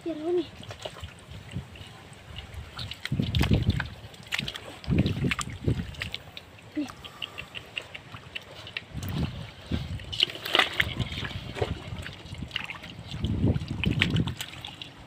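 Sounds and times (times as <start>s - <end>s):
hands sloshing through muddy water: 0.1s - 15.0s
trickling drips: 0.1s - 15.0s.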